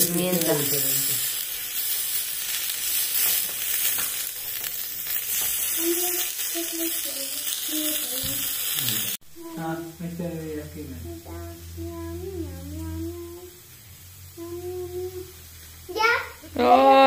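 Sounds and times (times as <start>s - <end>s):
meat skewers sizzling on griddle: 0.0s - 17.0s.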